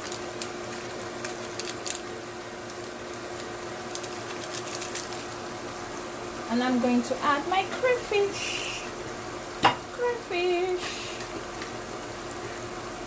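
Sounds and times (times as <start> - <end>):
onion frying in hot oil: 0.0 - 13.0
steady low hum: 0.0 - 13.0.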